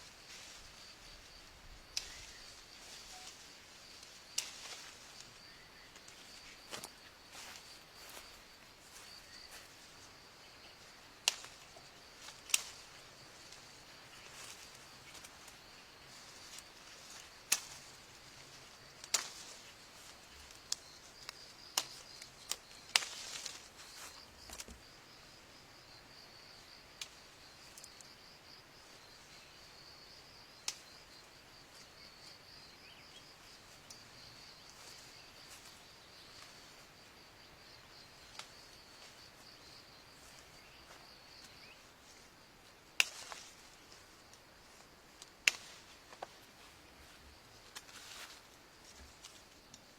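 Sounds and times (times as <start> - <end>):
insect chorus drone: 0.0 - 49.9.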